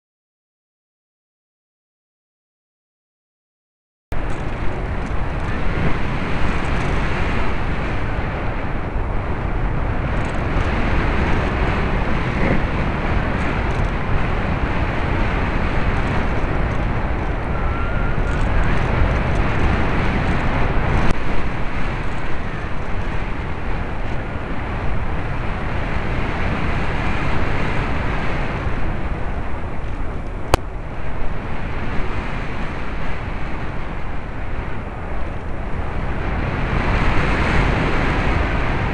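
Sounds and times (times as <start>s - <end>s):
wind rush: 4.1s - 38.9s.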